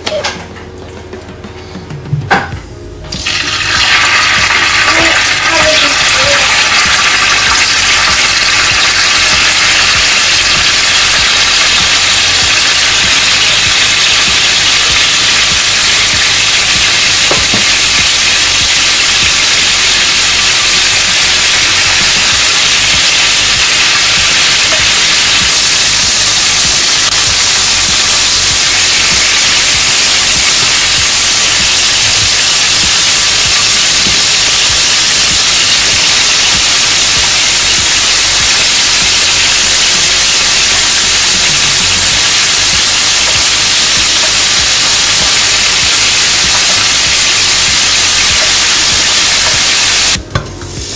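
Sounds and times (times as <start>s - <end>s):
chicken frying in oil: 3.2s - 50.2s.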